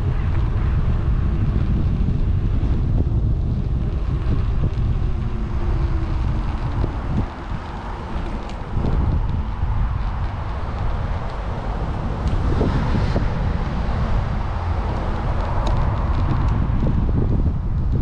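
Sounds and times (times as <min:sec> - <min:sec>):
road noise: 0:00.0 - 0:18.0
wind buffeting microphone: 0:00.0 - 0:18.0.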